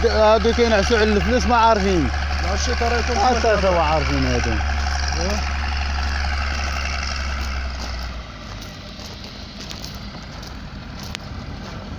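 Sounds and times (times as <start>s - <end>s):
engine droning: 0.0s - 11.9s.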